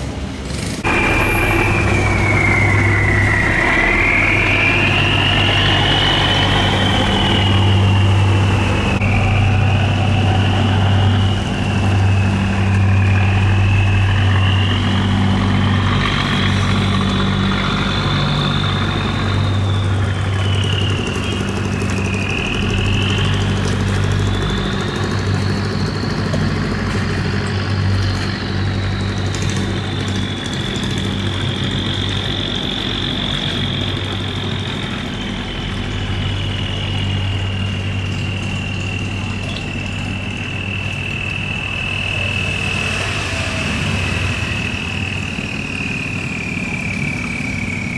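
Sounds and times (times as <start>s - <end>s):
boat engine humming and whining: 0.0s - 47.9s.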